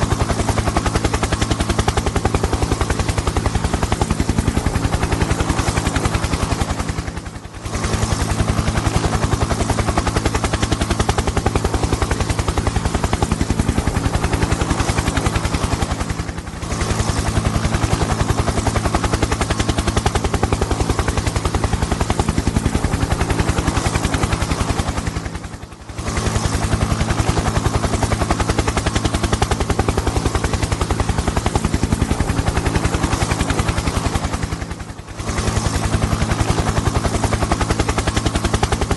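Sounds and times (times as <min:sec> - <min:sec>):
helicopter engine drone: 0:00.0 - 0:38.9
helicopter rotor chop: 0:00.0 - 0:38.9.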